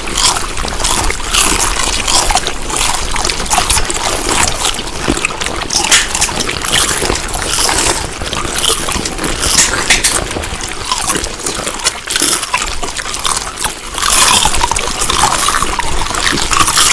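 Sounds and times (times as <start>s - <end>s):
wet chewing and mouth smacking: 0.0s - 16.9s.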